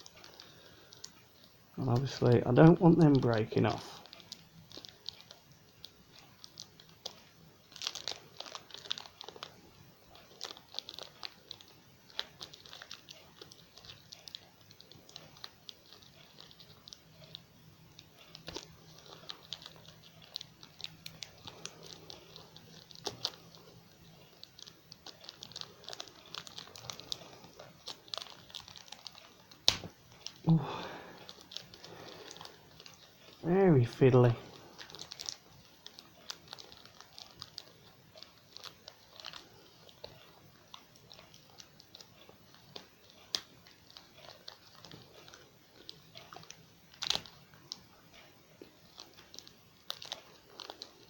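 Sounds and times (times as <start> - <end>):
plastic packaging crinkling: 0.0 - 51.0.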